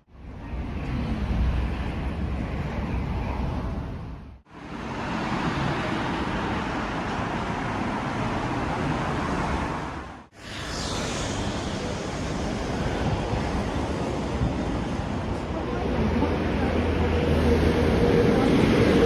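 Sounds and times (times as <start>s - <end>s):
busy street traffic: 0.0s - 19.0s.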